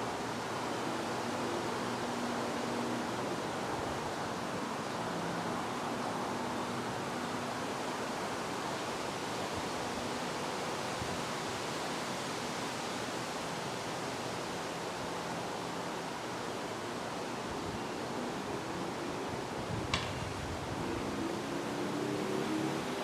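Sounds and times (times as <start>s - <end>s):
steady wind: 0.0s - 23.0s.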